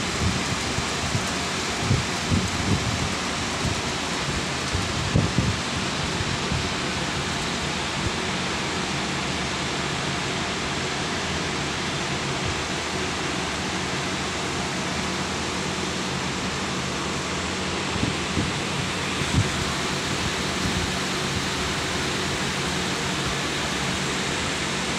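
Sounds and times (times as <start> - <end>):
machinery roar in large hall: 0.0 - 24.9.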